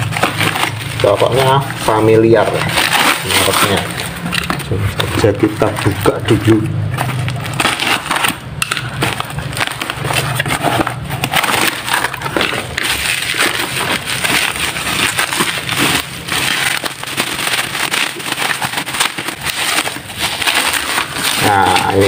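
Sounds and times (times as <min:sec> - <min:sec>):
bubble wrap crinkling: 0:00.0 - 0:22.0
cardboard parcel pulled open: 0:00.0 - 0:22.0.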